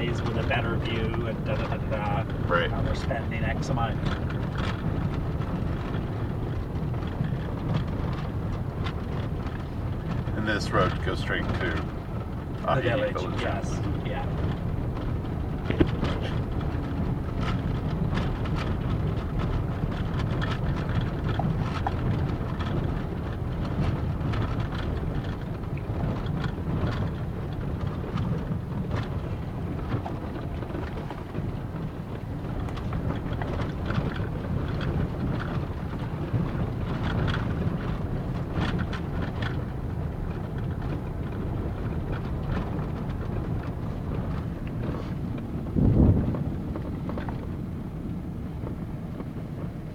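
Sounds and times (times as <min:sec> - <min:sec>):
knocks and rattles: 0:00.0 - 0:47.7
engine and tyre rumble: 0:00.0 - 0:49.9.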